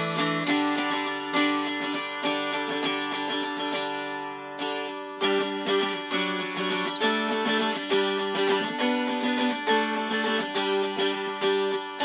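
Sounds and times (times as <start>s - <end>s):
mountain dulcimer strummed: 0.0s - 12.0s.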